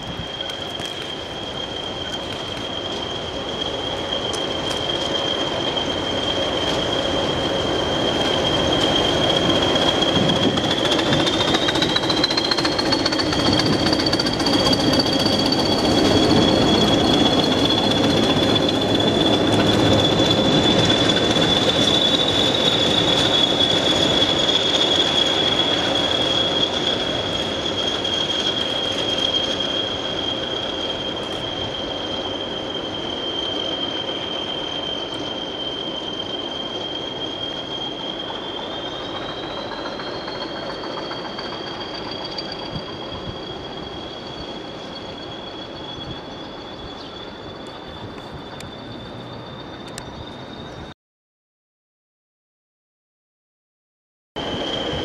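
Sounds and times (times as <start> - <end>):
locomotive wheels squealing: 0.0 - 51.0, 54.4 - 55.0.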